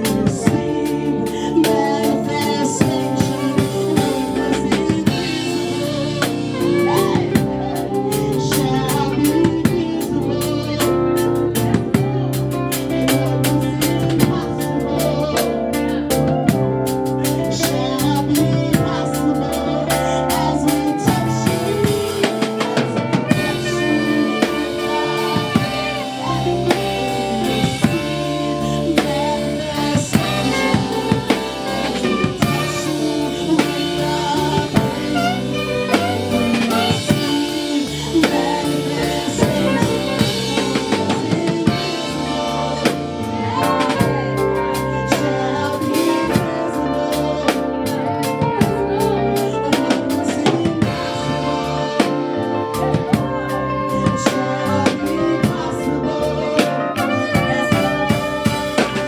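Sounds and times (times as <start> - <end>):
drum kit beat: 0.0 - 59.0
gospel band playing: 0.0 - 59.0
keyboard chords: 0.0 - 59.0.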